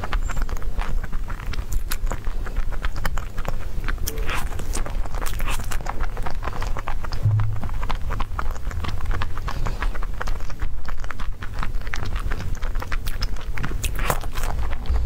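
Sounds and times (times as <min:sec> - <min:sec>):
person chewing soft cake: 0:00.0 - 0:15.0
wet mouth smacks and clicks: 0:00.4 - 0:07.2, 0:07.8 - 0:15.0.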